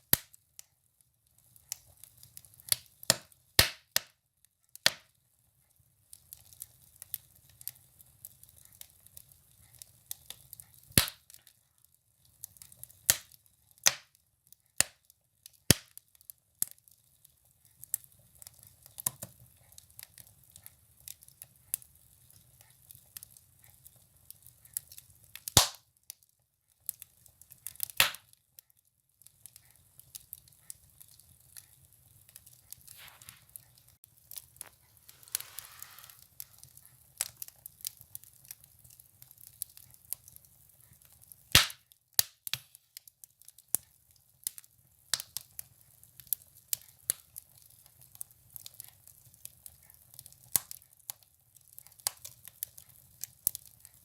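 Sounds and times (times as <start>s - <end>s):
firewood crackling and popping: 0.0s - 4.1s, 4.7s - 5.2s, 6.0s - 54.0s.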